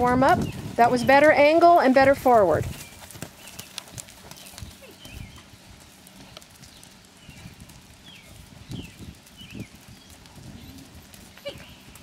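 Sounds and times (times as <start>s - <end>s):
horse hooves thudding on sand: 0.0s - 12.0s.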